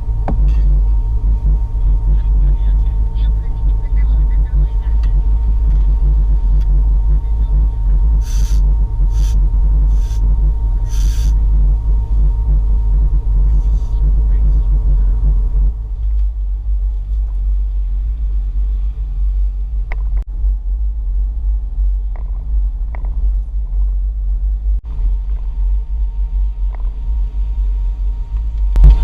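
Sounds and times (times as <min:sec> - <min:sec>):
engine rumbling under load: 0:00.0 - 0:29.0
road noise: 0:00.0 - 0:29.0.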